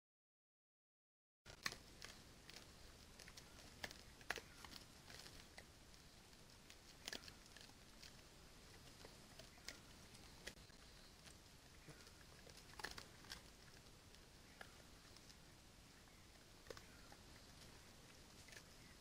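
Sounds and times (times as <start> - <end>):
animal rustling in dry leaves: 1.5 - 19.0.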